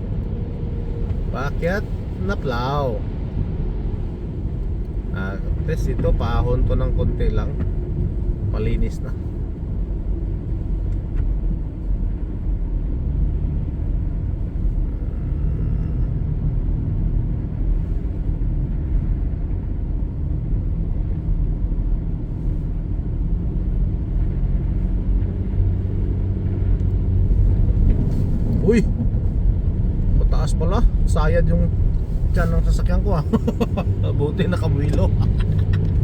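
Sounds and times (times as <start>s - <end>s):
car engine and tyre rumble: 0.0s - 36.0s.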